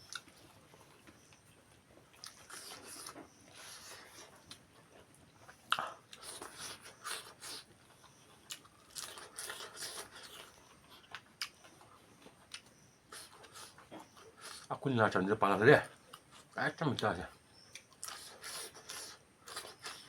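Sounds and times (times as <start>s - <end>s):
person chewing and crunching food: 0.0s - 14.8s, 15.9s - 20.0s.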